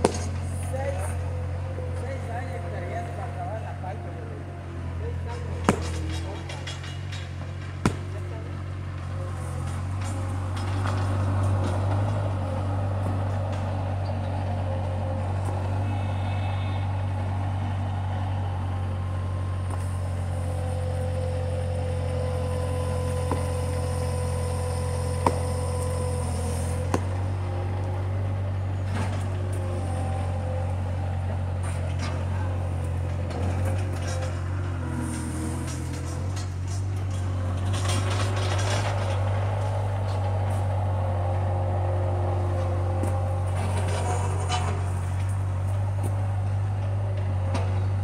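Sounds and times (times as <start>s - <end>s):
loader engine running: 0.0s - 48.0s
steady whine: 9.1s - 48.0s.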